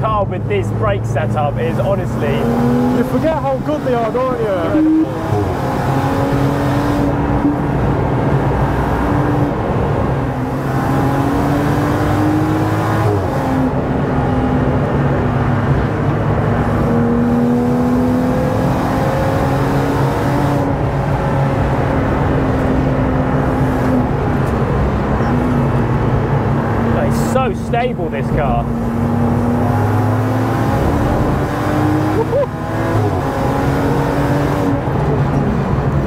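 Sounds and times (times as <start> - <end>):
car engine revving: 0.0 - 36.0
road and tyre noise: 0.0 - 36.0.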